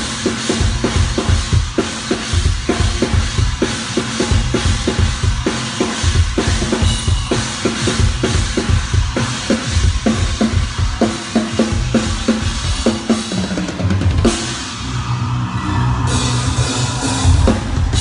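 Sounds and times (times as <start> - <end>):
drum kit groove: 0.0 - 14.7, 16.1 - 18.0.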